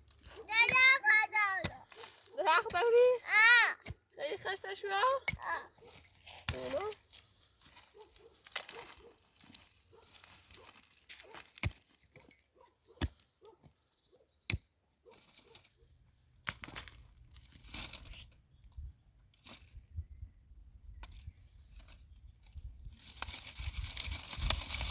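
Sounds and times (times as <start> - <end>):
rustling and crinkling: 0.0 - 13.5, 15.0 - 15.9, 16.5 - 20.0, 21.1 - 24.9.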